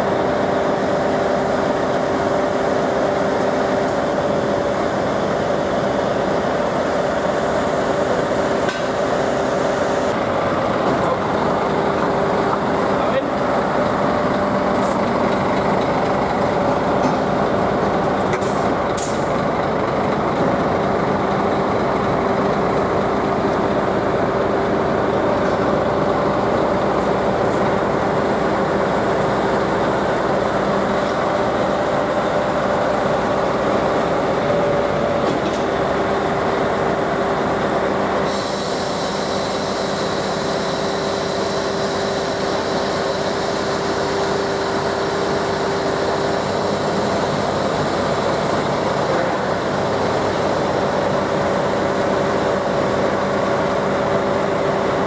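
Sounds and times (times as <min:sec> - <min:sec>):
truck diesel engine at low revs: 0:00.0 - 0:55.0.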